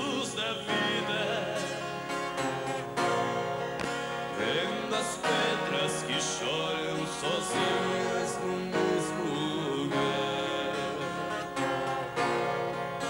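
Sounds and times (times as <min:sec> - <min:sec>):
acoustic guitar: 0:00.0 - 0:13.0
country ballad singing: 0:00.0 - 0:13.0.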